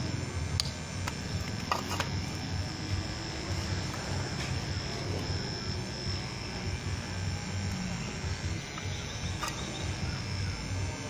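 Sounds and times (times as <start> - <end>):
small electric motors buzzing: 0.0 - 11.0.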